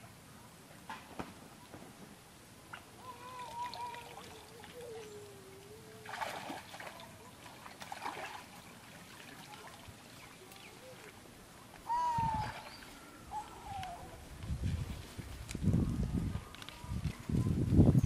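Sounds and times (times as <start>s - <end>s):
water trickling and splashing: 2.6s - 18.0s.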